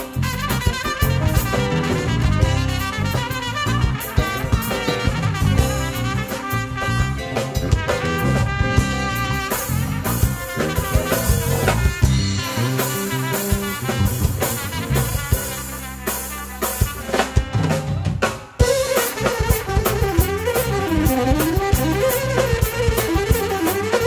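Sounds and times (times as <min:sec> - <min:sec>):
drum kit played hard: 0:00.0 - 0:24.0
folk band music: 0:00.0 - 0:24.0.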